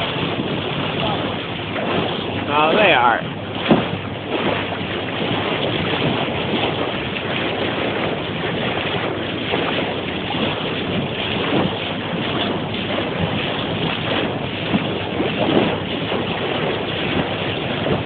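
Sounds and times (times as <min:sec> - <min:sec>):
seawater rushing along boat bow: 0:00.0 - 0:18.0
wind on microphone: 0:00.0 - 0:18.0.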